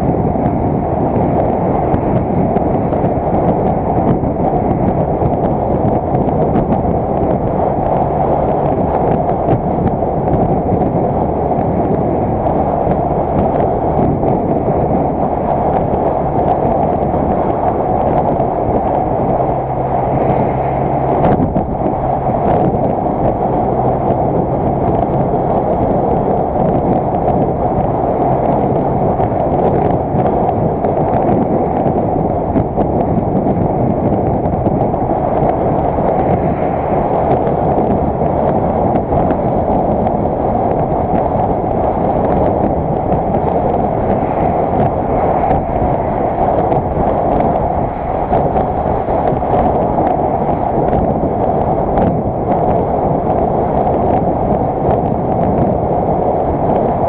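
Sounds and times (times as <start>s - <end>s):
motorcycle engine and road noise: 0.0s - 57.0s
wind buffeting microphone: 0.0s - 57.0s.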